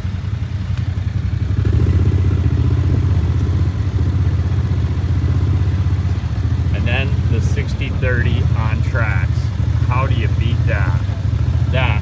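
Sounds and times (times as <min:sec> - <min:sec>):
diesel tractor engine under load: 0:00.0 - 0:12.0.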